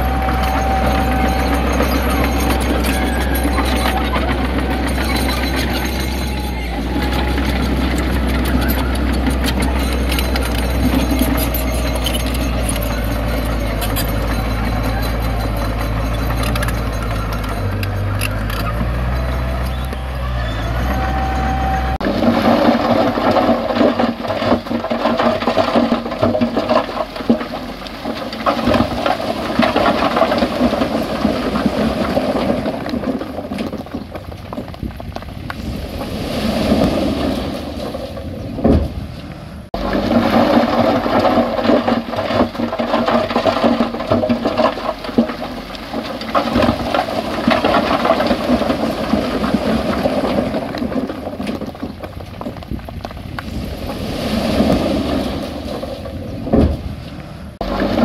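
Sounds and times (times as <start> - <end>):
diesel machinery engine: 0.0 - 58.0
rattling of machine and rock: 0.0 - 58.0.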